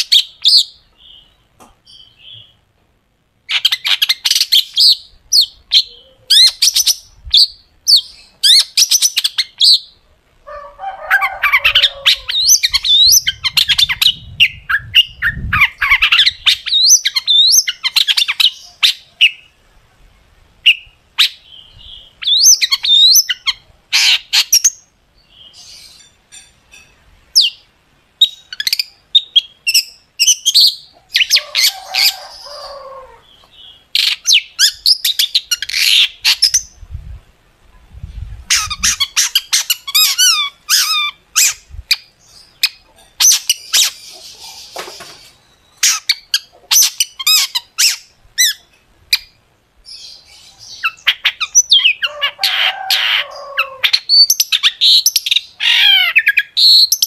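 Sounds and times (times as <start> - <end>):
bird chattering song: 0.0 - 2.7, 3.4 - 10.0, 10.6 - 19.6, 20.6 - 36.8, 38.5 - 57.0.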